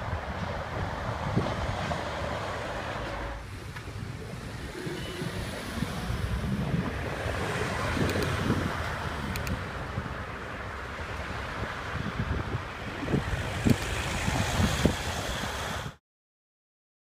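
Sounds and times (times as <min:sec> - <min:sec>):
city traffic: 0:00.0 - 0:16.0
road rumble: 0:00.0 - 0:16.0
wind rushing over microphone: 0:00.0 - 0:16.0.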